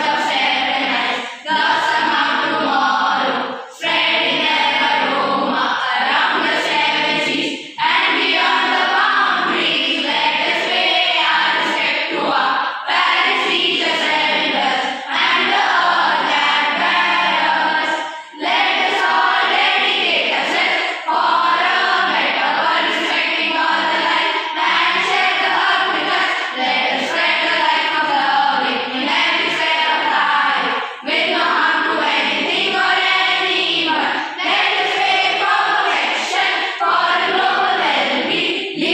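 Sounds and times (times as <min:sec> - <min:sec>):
children's choir singing: 0:00.0 - 0:38.9.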